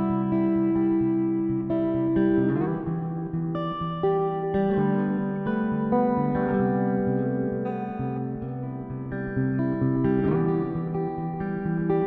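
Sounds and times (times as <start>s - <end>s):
plucked notes music: 0.0s - 12.0s.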